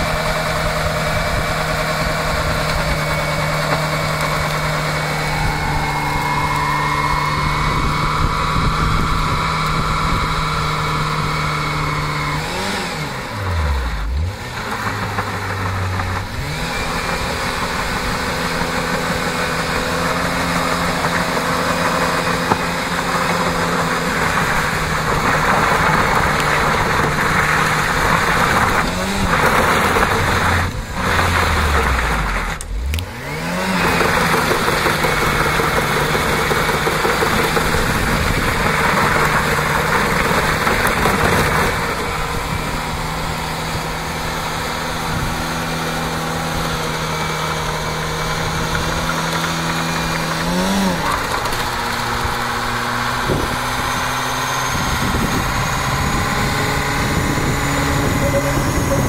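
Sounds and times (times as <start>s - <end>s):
engine revving at high revs: 0.0s - 59.0s.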